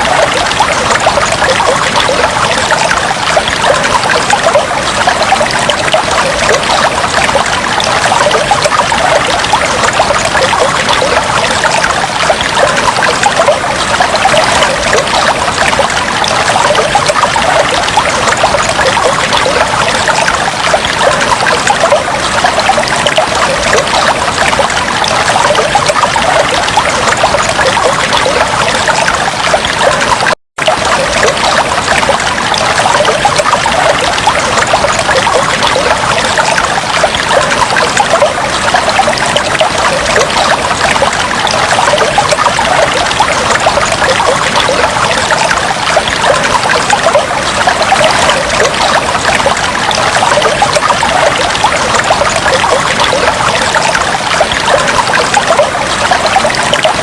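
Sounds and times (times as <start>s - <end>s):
aquarium water trickling and bubbling: 0.0s - 57.0s.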